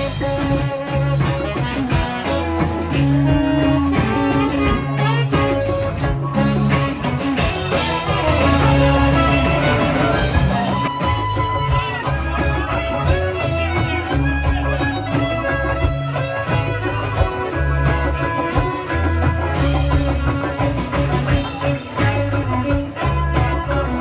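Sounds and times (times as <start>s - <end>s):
band music with fiddle: 0.0s - 24.0s.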